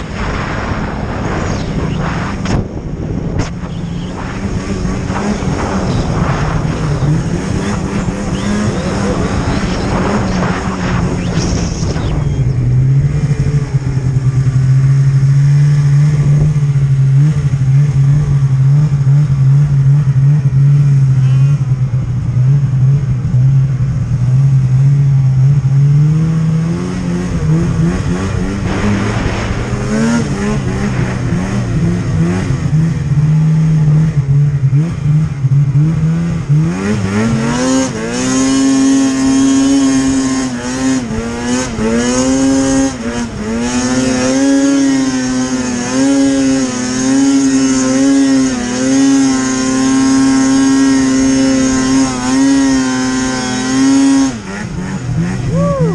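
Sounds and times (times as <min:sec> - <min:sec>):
snowmobile engine revving: 0:00.0 - 0:55.9.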